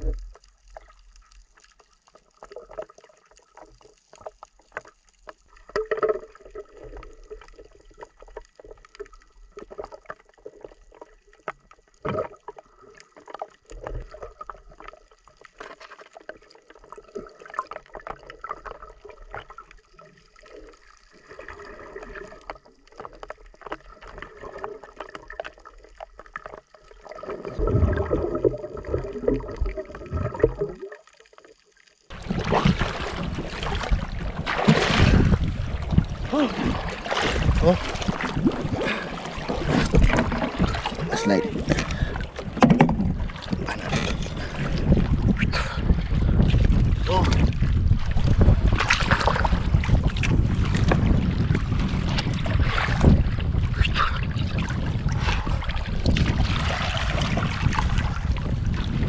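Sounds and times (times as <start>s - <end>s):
low rumbling of moving water: 0.0s - 59.0s
underwater bubbling water: 0.0s - 59.0s
water splashing and sloshing: 0.0s - 59.0s.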